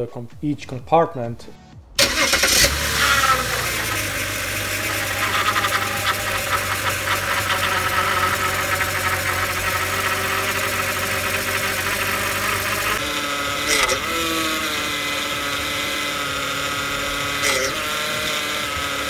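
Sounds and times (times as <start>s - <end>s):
car engine starting and idling: 2.0s - 19.0s
power steering pump whine: 2.0s - 19.0s.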